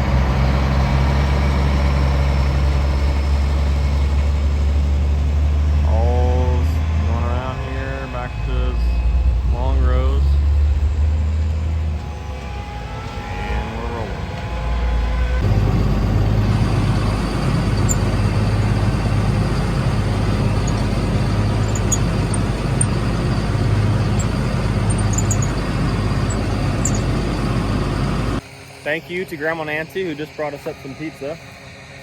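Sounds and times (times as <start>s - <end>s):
diesel machinery humming: 0.0s - 32.0s.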